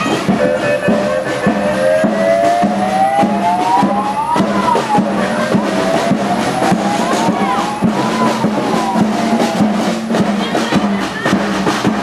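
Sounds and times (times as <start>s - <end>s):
wailing tone: 0.0s - 10.1s
street drum band: 0.0s - 12.0s.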